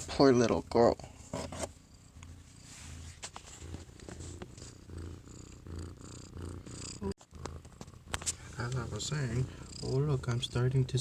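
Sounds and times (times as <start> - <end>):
cat purring: 0.4 - 11.0.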